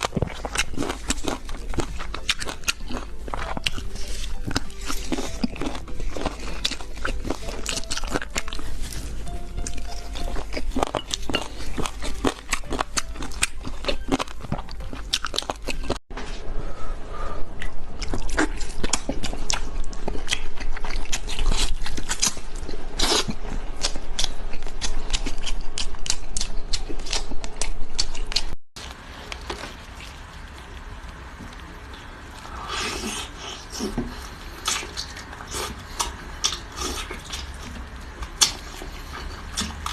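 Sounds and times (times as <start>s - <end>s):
crunchy biting and chewing: 0.0s - 16.0s, 17.6s - 39.9s.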